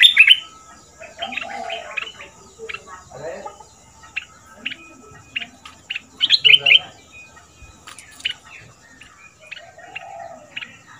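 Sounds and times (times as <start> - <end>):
bird singing sharp chirps: 0.0 - 10.9.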